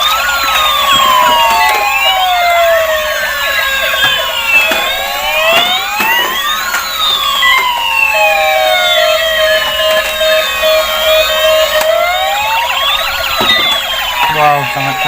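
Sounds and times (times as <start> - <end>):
rapid pulsed beeping: 0.0 - 15.0
toy electronic sirens wailing: 0.0 - 15.0.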